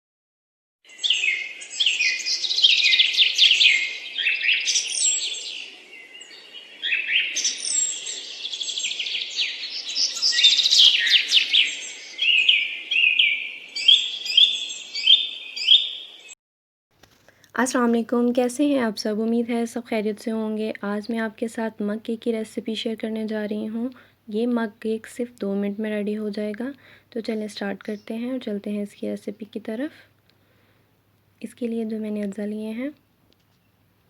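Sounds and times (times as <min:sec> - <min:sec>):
small birds chirping: 0:00.9 - 0:16.4, 0:17.3 - 0:34.0.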